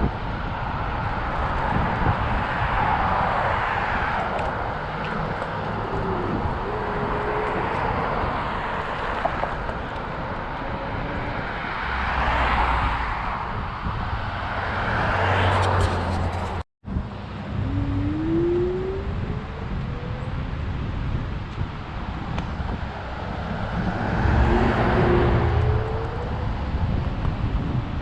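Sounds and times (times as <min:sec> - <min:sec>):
road and wind noise: 0:00.0 - 0:28.0
road traffic passing: 0:00.0 - 0:28.0.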